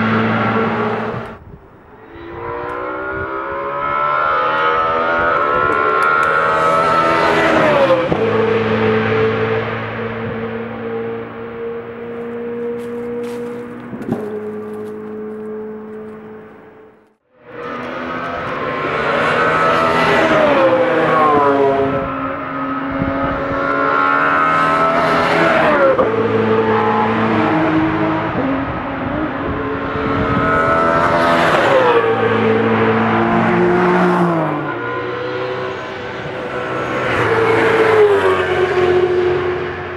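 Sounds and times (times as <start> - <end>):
racing cars passing at full throttle: 0.0 - 39.9.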